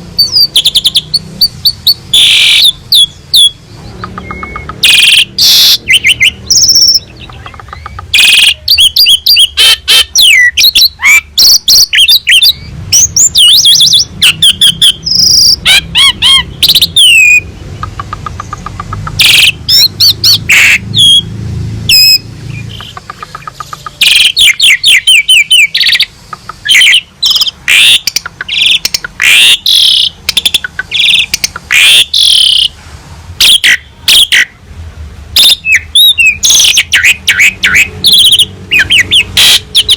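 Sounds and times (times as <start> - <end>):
starling singing: 0.0 - 32.8, 33.4 - 34.6, 35.4 - 39.9.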